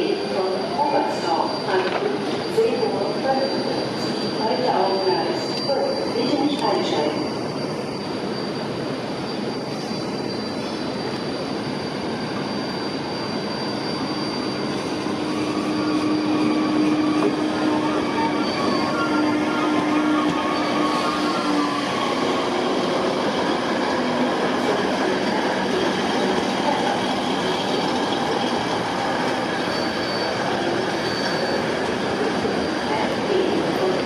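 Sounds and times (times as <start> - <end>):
train drone: 0.0 - 34.0
train wheels squealing on curve: 0.0 - 34.0.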